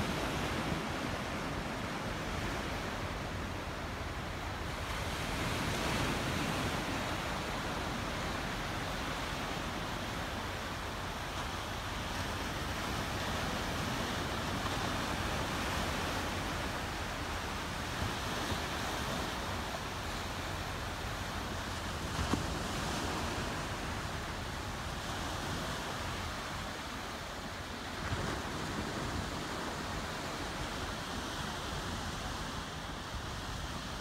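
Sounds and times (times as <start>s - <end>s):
small waves breaking on beach: 0.0s - 34.0s.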